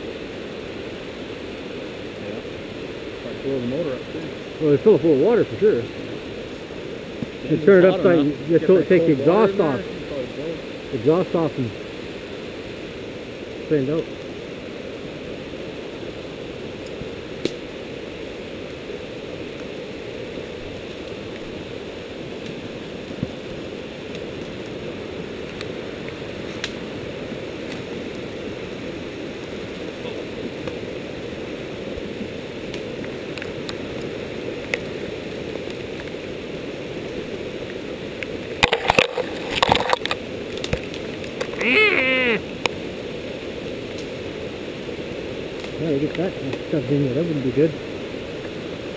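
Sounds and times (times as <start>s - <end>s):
creek rushing: 0.0s - 48.9s.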